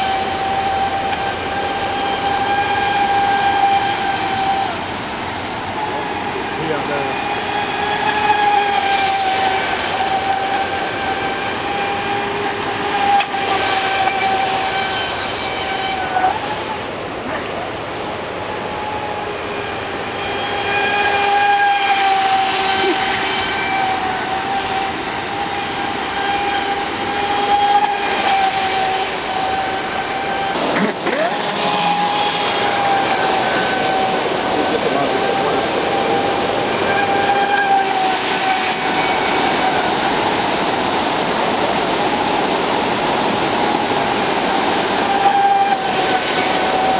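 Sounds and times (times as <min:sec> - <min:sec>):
model boat motor whining: 0:00.0 - 0:46.9.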